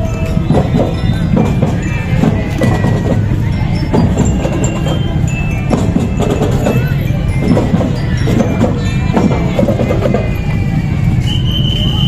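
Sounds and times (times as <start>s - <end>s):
high glockenspiel notes: 0.0s - 11.3s
marching band drums: 0.2s - 12.0s.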